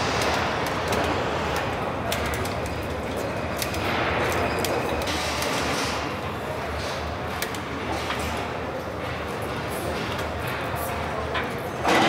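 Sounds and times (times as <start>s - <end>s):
steady factory din: 0.0s - 12.0s.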